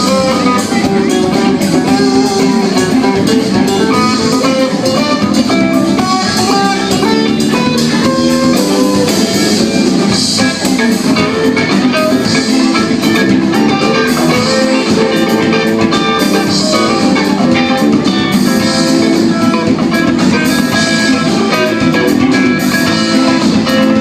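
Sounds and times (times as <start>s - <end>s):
drum kit: 0.0s - 24.0s
guitars strumming: 0.0s - 24.0s.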